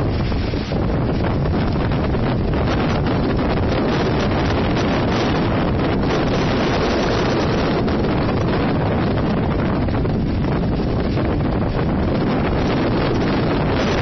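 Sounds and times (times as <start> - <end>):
heavy surf: 0.0 - 14.0
wind buffeting microphone: 0.0 - 14.0.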